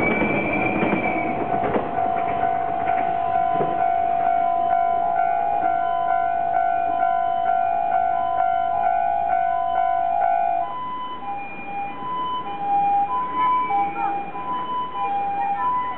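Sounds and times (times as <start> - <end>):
level crossing warning bell: 0.0 - 15.9
train passing: 0.0 - 15.9.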